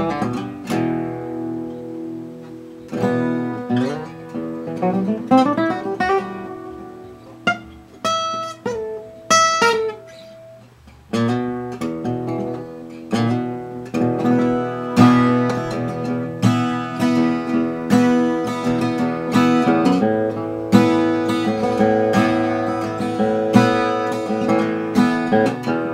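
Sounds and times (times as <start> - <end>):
acoustic guitar playing: 0.0 - 25.9.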